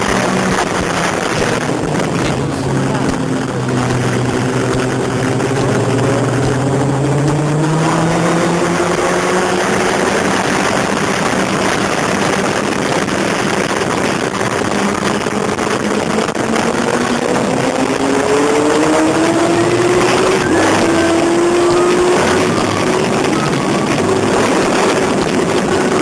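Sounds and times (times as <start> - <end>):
motorcycle engine accelerating: 0.0 - 26.0
rushing wind noise: 0.0 - 26.0.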